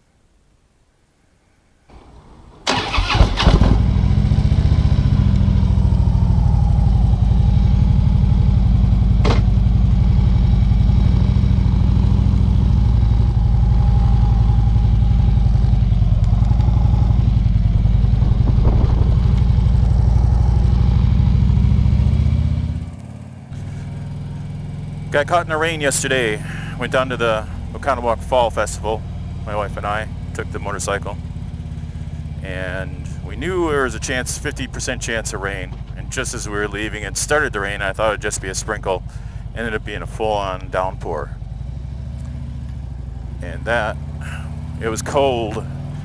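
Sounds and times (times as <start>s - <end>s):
motorcycle engine starting and idling: 1.9s - 46.0s.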